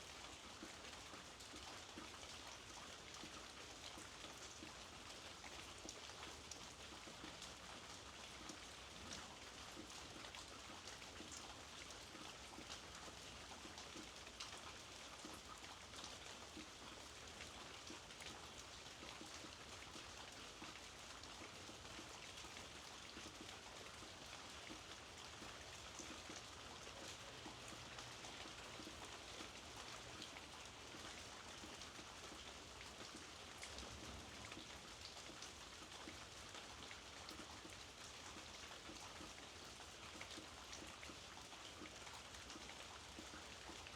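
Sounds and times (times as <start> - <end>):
soft rainfall hiss: 0.0 - 43.9.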